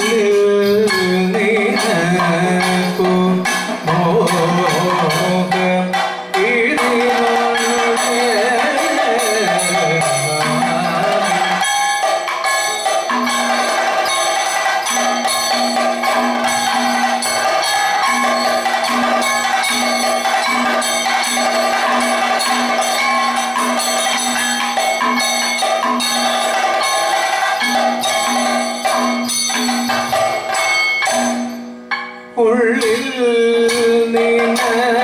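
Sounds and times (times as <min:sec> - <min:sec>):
drums beating rapidly: 0:00.0 - 0:31.6, 0:32.7 - 0:35.0
ringing metal cymbals: 0:00.0 - 0:35.0.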